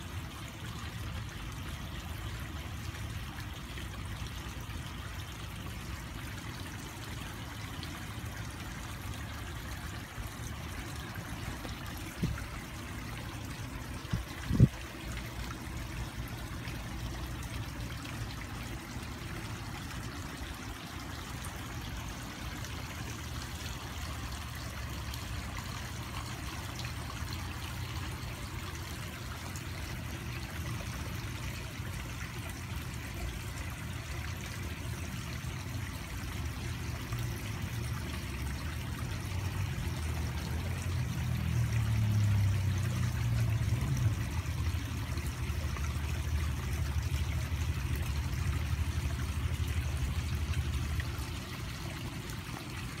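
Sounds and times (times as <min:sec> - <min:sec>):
water trickling: 0:00.0 - 0:53.0.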